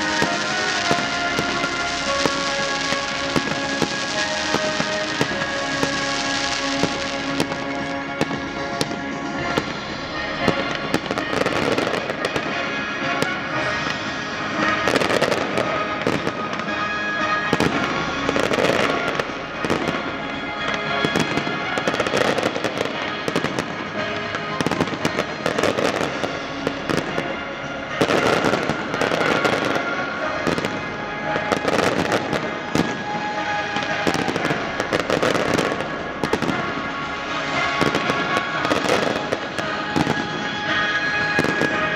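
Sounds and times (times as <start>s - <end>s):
fireworks bursting: 0.0s - 41.9s
music playing: 0.0s - 41.9s.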